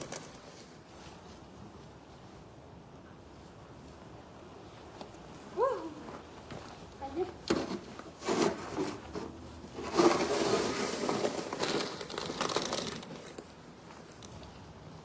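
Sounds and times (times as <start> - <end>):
rustling crinkling noise: 0.0 - 2.6, 3.3 - 15.0.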